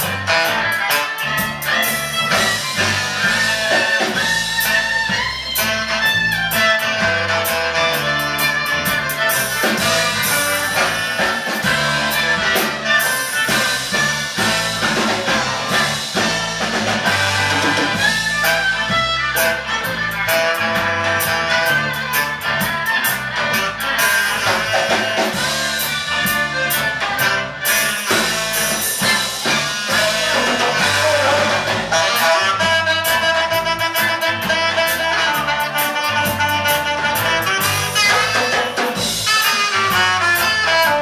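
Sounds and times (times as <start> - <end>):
fiddle: 0.0 - 41.0
live band playing: 0.0 - 41.0
saxophone: 0.0 - 41.0.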